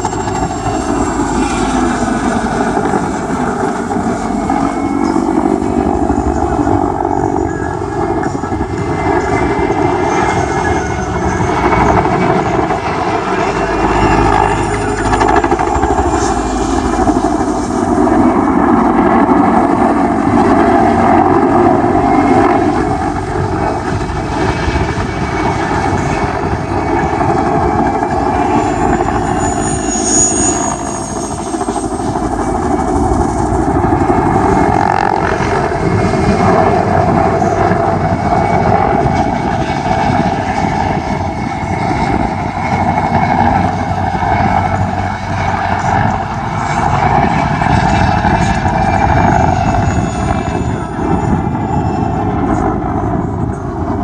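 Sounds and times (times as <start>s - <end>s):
helicopter engines and rotor: 0.0s - 54.0s.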